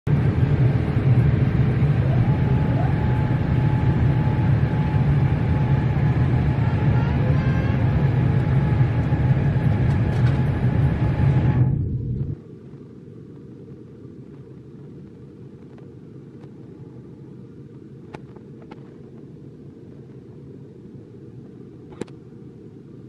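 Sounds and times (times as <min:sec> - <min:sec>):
airliner cabin rumble: 0:00.1 - 0:23.0
faint steady whine: 0:00.1 - 0:23.0.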